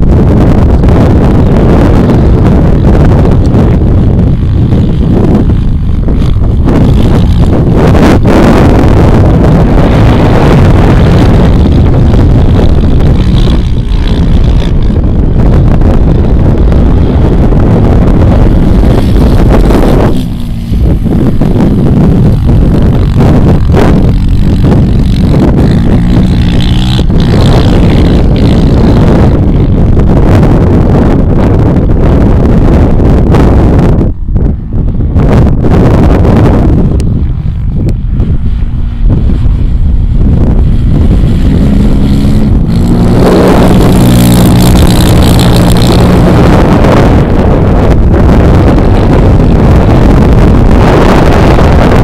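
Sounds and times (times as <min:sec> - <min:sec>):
quad engine revving: 0:00.0 - 0:33.6, 0:35.7 - 0:52.0
wind buffeting microphone: 0:00.0 - 0:52.0.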